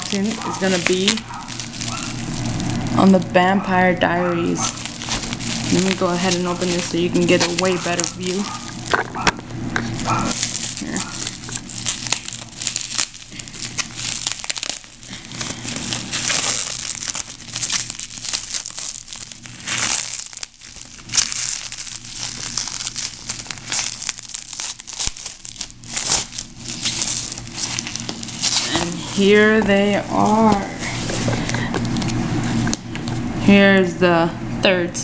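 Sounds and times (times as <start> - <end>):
bubble wrap crinkling: 0.0 - 33.3.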